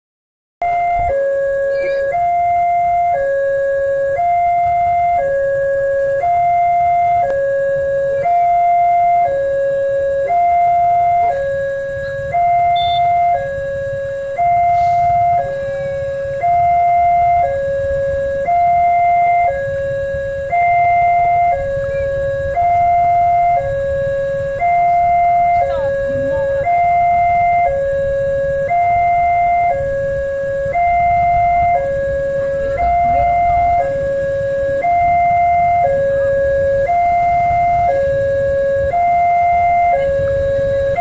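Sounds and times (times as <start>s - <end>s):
level crossing two-tone alarm: 0.6s - 41.0s.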